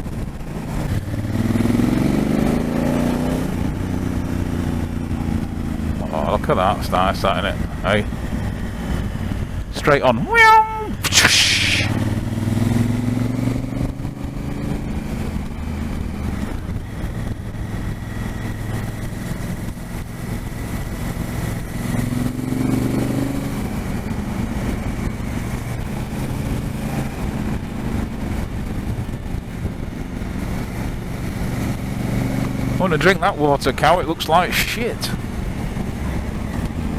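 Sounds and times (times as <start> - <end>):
motorcycle engine running: 0.0 - 36.9
wind and road noise: 0.0 - 36.9.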